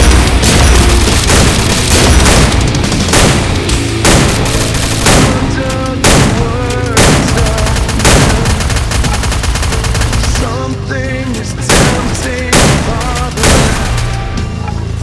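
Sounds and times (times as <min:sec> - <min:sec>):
pounding drums: 0:00.0 - 0:10.5, 0:11.7 - 0:14.5
distorted guitars: 0:00.0 - 0:15.0.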